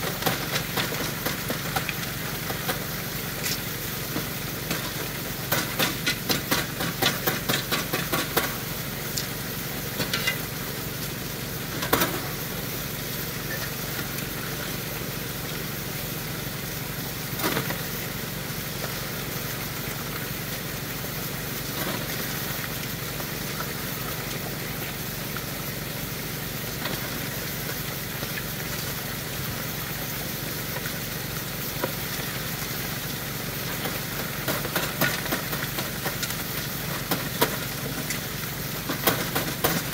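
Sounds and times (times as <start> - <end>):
water pump humming: 0.0 - 39.9
water rushing through sluice: 0.0 - 39.9.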